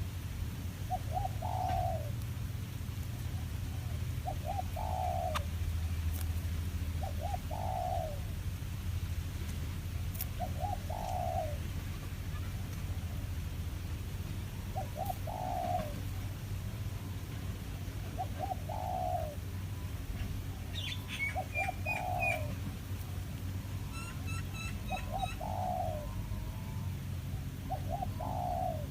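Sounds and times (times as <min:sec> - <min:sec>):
dove cooing: 0:00.0 - 0:28.9
steady low hum: 0:00.0 - 0:28.9.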